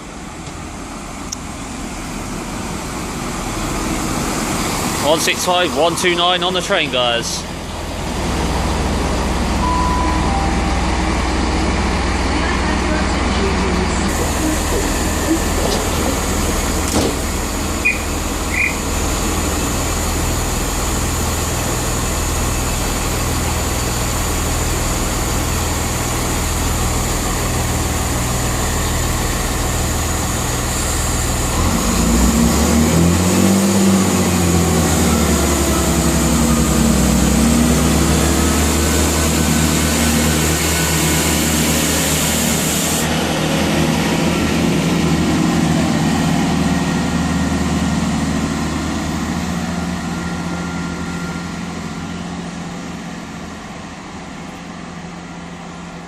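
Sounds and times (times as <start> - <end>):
diesel train engines idling and revving: 0.0 - 56.0.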